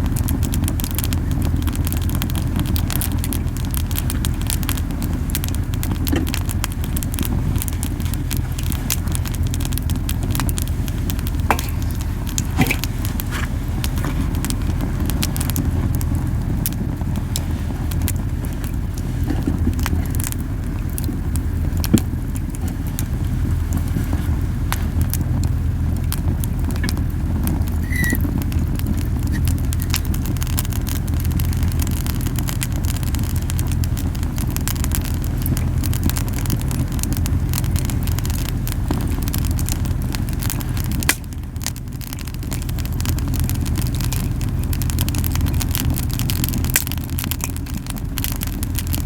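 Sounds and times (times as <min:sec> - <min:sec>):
burning wood crackling and popping: 0:00.0 - 0:49.0
campfire flames rumbling: 0:00.0 - 0:49.0.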